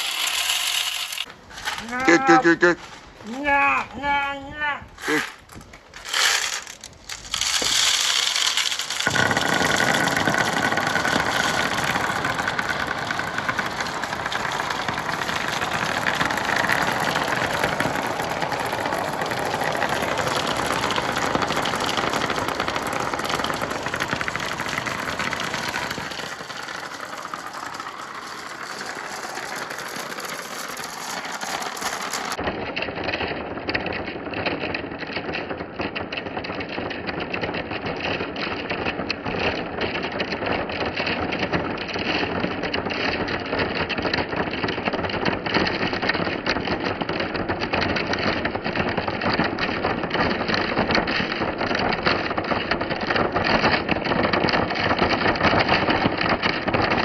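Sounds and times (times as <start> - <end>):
marbles rolling along track: 0.0 - 4.0, 4.9 - 57.0.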